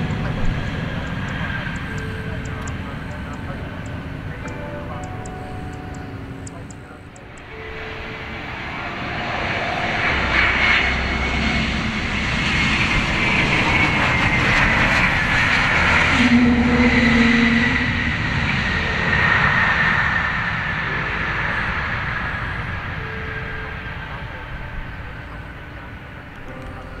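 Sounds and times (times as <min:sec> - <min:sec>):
airliner jet engines landing: 0:00.0 - 0:27.0
high engine whine: 0:00.0 - 0:27.0.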